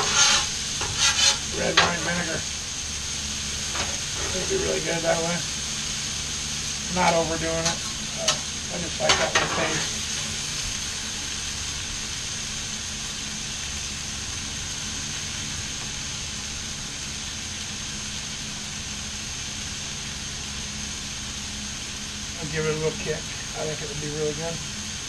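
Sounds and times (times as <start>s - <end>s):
food sizzling on a griddle: 0.0s - 25.0s.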